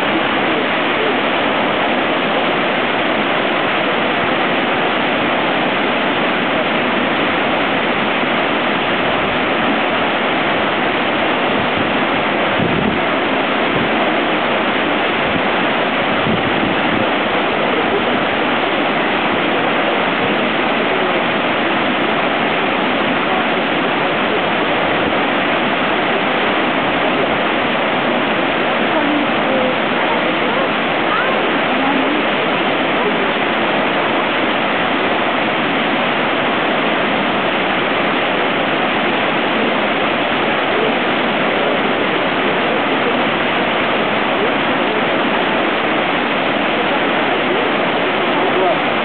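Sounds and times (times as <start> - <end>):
water rushing: 0.0 - 49.0.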